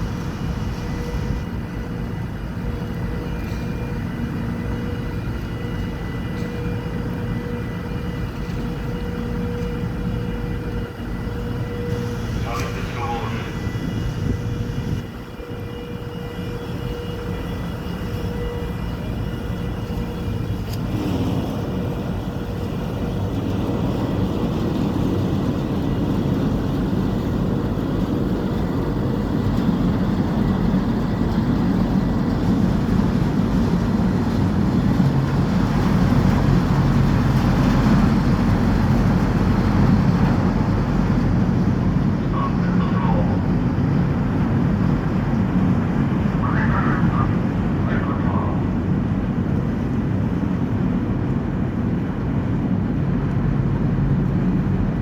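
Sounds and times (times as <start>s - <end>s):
ferry engines rumbling: 0.0s - 55.0s.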